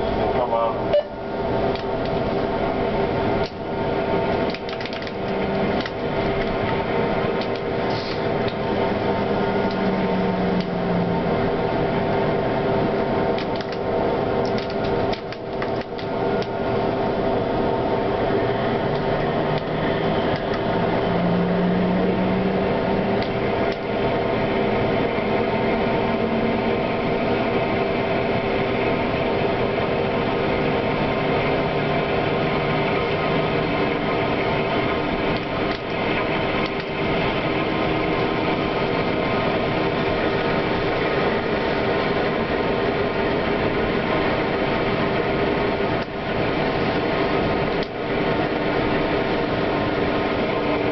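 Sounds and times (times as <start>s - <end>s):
tram rolling on rails: 0.0s - 50.9s
low motor tones: 5.1s - 50.9s.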